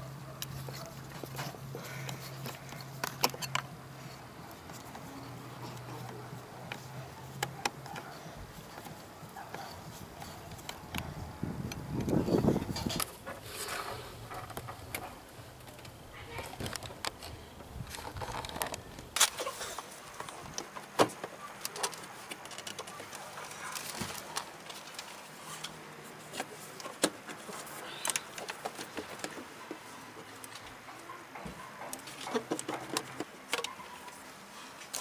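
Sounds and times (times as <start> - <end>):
plastic hose being handled: 0.4 - 35.0.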